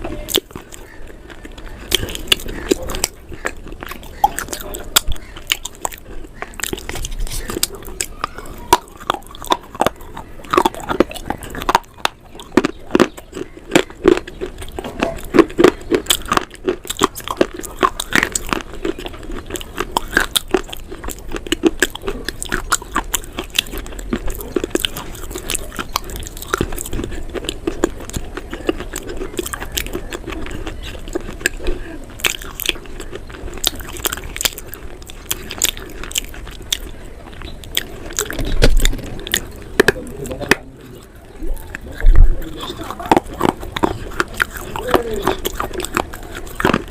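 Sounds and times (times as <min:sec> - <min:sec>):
person chewing crunchy food: 0:00.0 - 0:46.9.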